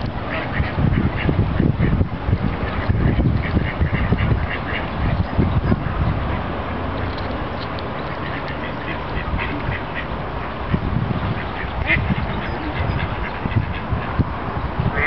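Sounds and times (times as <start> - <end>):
ducks quacking: 0.2 - 6.8, 8.0 - 14.3.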